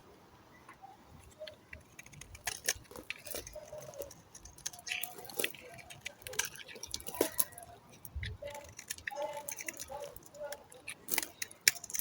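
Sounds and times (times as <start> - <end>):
knife cutting soap crackling: 1.2 - 12.0.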